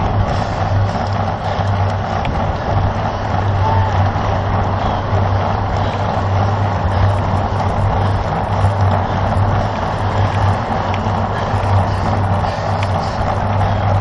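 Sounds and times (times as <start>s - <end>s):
bicycle tyre noise: 0.0s - 14.0s
wind rush: 0.0s - 14.0s.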